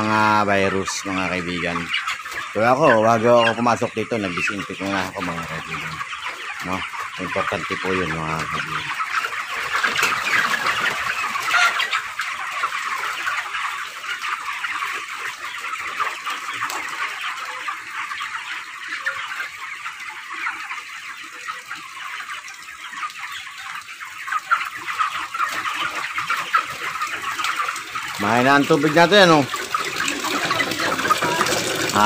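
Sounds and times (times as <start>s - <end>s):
chicks cheeping: 0.0s - 32.0s.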